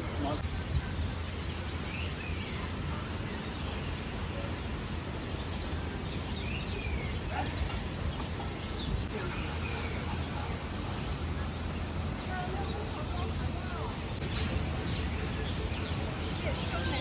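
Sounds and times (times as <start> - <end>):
many birds chirping: 0.0 - 17.0.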